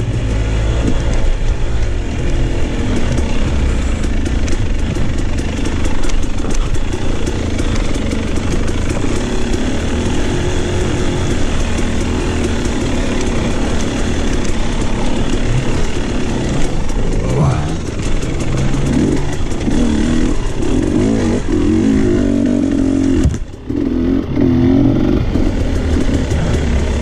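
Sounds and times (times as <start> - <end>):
dirt bike engine running: 0.0 - 27.0
sharp clicks: 0.0 - 27.0.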